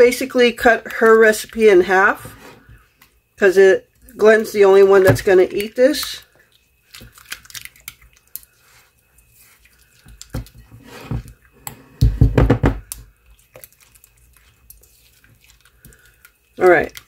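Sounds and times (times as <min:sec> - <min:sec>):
spatula stirring thick dressing: 0:00.0 - 0:12.2, 0:12.8 - 0:17.0.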